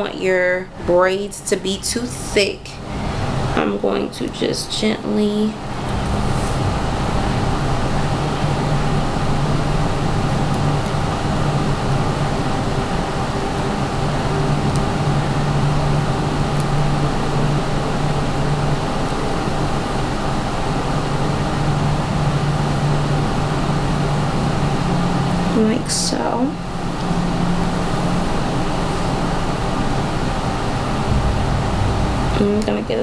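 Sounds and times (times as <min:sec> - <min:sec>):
fan humming and rushing: 0:00.0 - 0:33.0.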